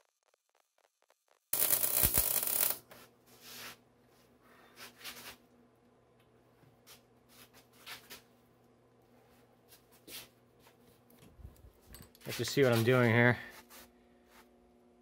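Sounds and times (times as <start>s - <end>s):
faint electrical hum: 1.6s - 15.0s.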